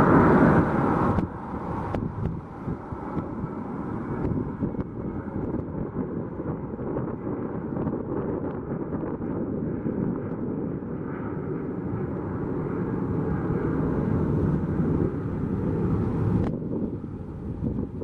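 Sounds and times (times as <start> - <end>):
jet engines roaring: 0.0 - 18.0
wind buffeting microphone: 0.0 - 18.0.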